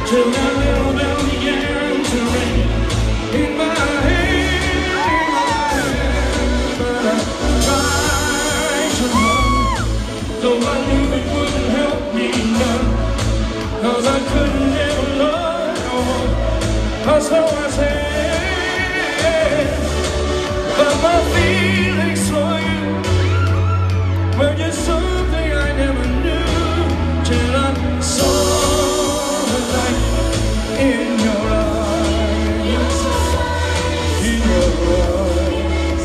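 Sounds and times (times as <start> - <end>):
man singing: 0.0 - 36.0.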